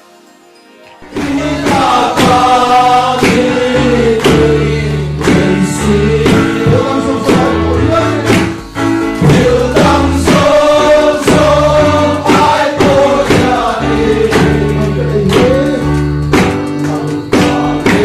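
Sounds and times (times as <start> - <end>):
electric keyboard accompaniment: 0.0 - 18.0
men singing gospel song: 1.0 - 18.0.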